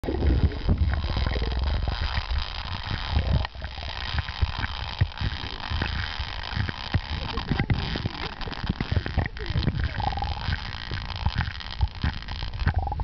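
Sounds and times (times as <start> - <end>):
underwater clicks and crackles: 0.0 - 13.0
underwater rumble of moving water: 0.0 - 13.0.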